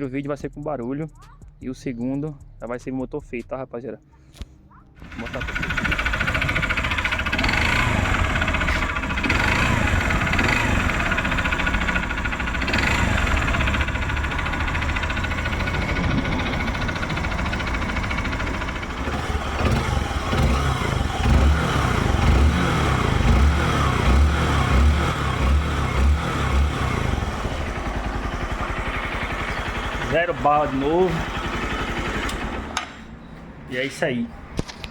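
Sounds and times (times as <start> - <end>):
motorcycle engine idling and revving: 5.0 - 33.6.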